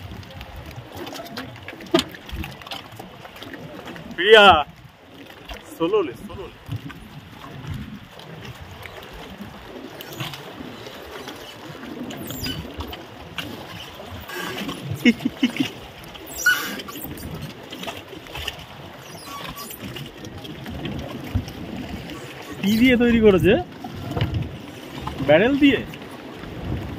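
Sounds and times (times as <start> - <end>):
water splashing against a boat: 0.0 - 26.9.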